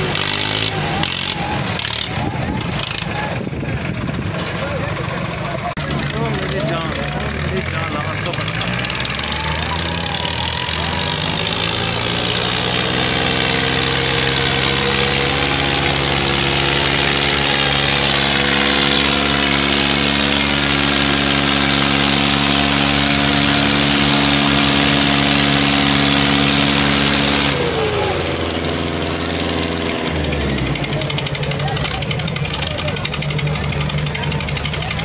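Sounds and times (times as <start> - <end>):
tractor diesel engines at full throttle: 0.0 - 35.0.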